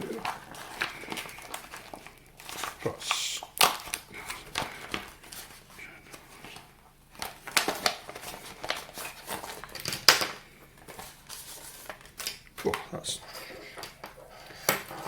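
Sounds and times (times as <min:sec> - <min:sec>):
plastic packaging rustling: 0:00.0 - 0:15.0.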